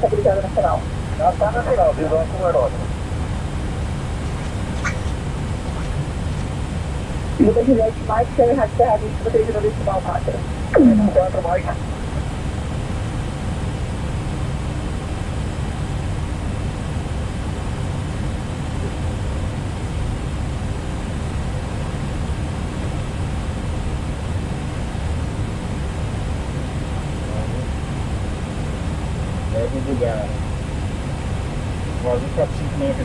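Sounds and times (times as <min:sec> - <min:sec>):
aircraft airflow and engine hum: 0:00.0 - 0:33.0.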